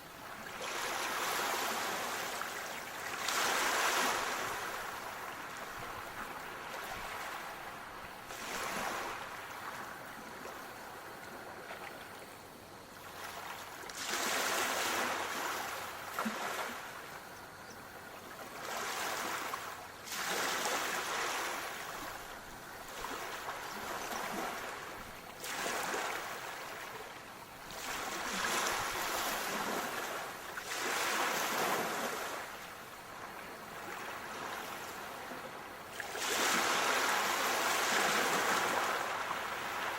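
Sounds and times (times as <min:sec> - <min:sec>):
sea waves washing in: 0:00.2 - 0:11.8, 0:18.4 - 0:39.9.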